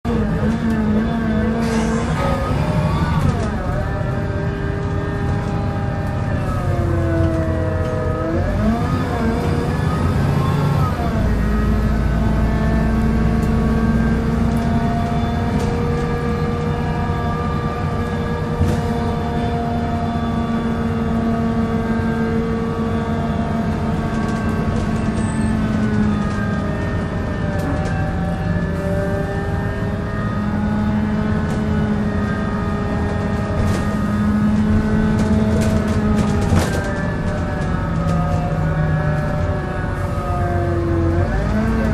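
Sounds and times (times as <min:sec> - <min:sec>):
bus engine whining and droning: 0:00.0 - 0:41.9.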